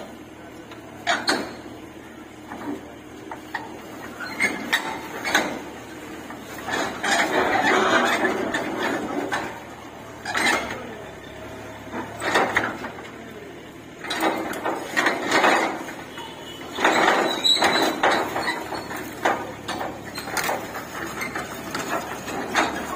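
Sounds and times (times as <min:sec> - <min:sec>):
excavator engine running: 0:00.0 - 0:22.9
steel ramps clanking: 0:00.0 - 0:22.9.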